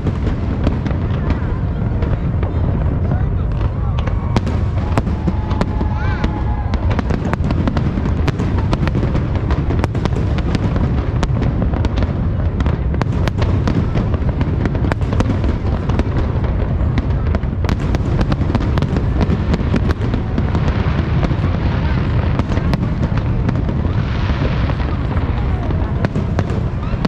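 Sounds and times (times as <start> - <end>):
fireworks crackling pops: 0.0 - 27.0
low rumble of fireworks booms: 0.0 - 27.0.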